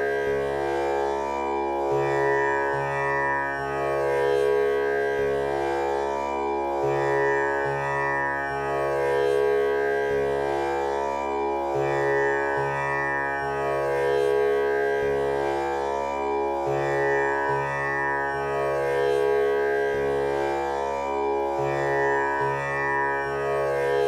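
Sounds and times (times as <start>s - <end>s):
tanpura drone: 0.0s - 24.0s.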